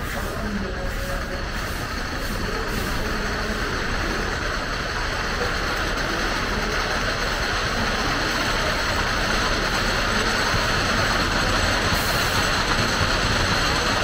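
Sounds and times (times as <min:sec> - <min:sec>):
roller coaster rumbling on track: 0:00.0 - 0:14.0.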